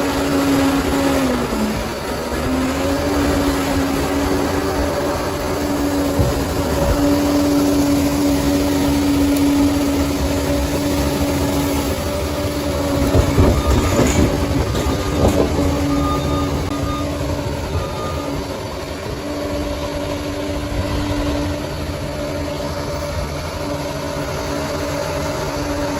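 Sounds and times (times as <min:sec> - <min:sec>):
bulldozer diesel engine running: 0:00.0 - 0:25.9.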